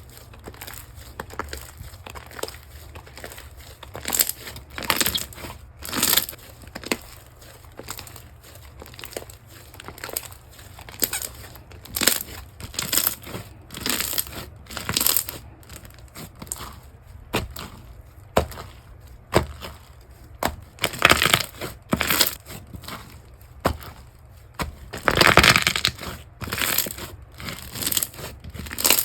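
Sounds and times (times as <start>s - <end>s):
slime squishing by hand: 0.0s - 29.0s.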